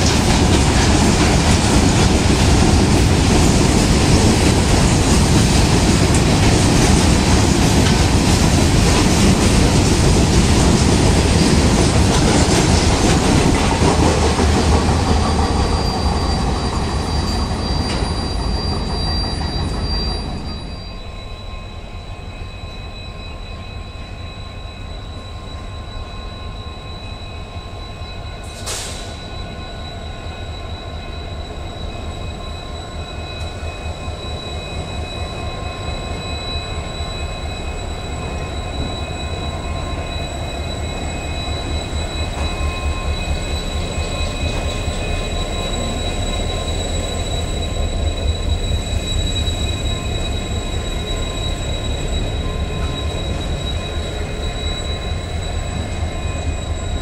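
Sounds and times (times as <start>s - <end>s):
freight train rumble: 0.0s - 57.0s
high-pitched whine: 1.2s - 57.0s.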